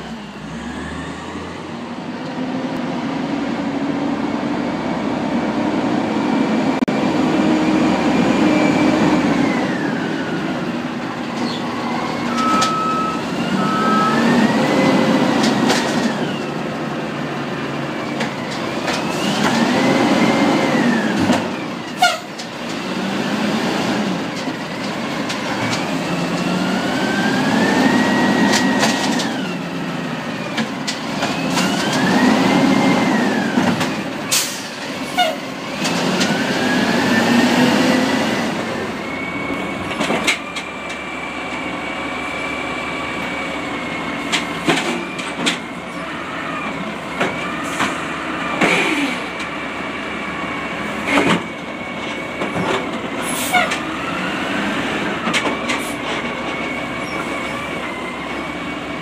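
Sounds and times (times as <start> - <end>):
hydraulics whining: 0.0 - 59.0
truck engine revving: 0.0 - 59.0.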